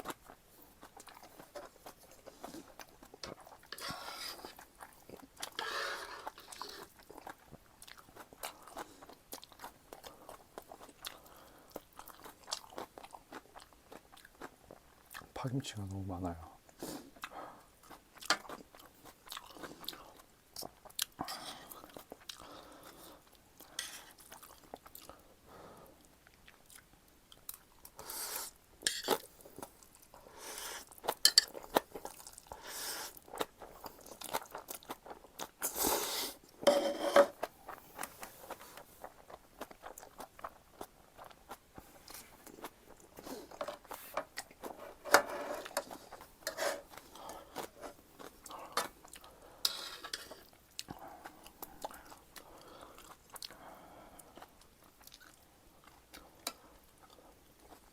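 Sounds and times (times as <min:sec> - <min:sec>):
chewing and crunching: 0:00.0 - 0:15.4, 0:16.6 - 0:35.8, 0:37.3 - 0:57.9.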